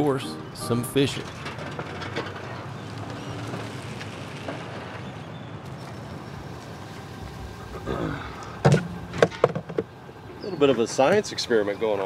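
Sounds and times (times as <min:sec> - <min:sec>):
vehicle rolling past on pavement: 0:00.5 - 0:12.0.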